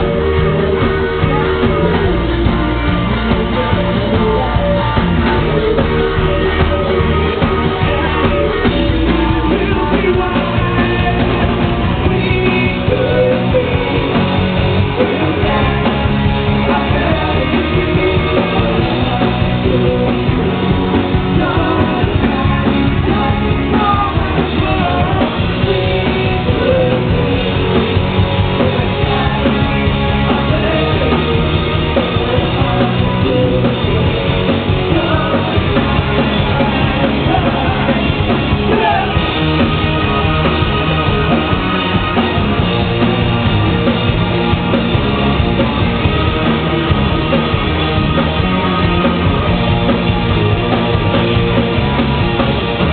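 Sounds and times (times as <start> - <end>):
person singing: 0.0 - 43.9
rock band playing live: 0.0 - 52.9.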